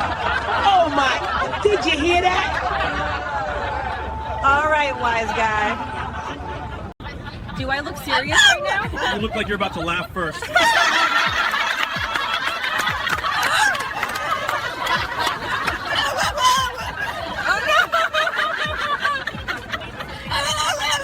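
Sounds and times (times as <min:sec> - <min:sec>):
people laughing: 0:00.0 - 0:21.0.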